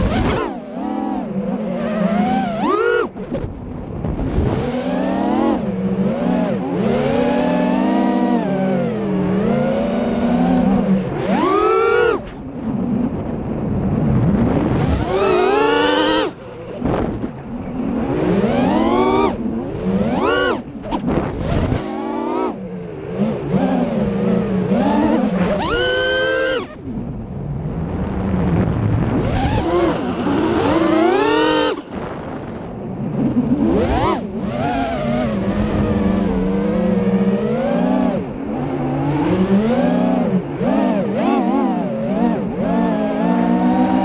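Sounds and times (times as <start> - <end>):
drone motors whining: 0.0 - 44.0.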